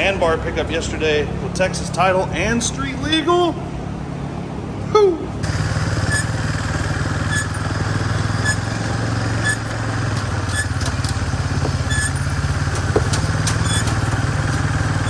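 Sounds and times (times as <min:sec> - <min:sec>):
small truck engine running: 0:00.0 - 0:15.0.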